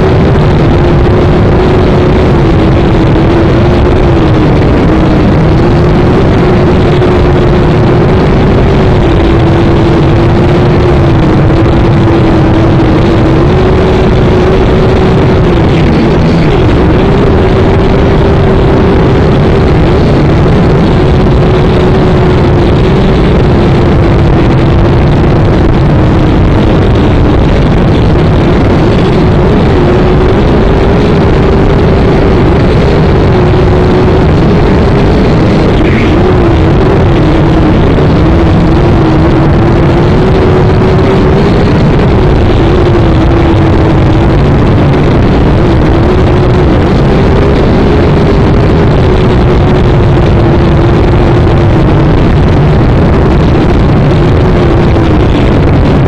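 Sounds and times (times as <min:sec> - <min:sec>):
drone propellers whirring: 0:00.0 - 0:56.0.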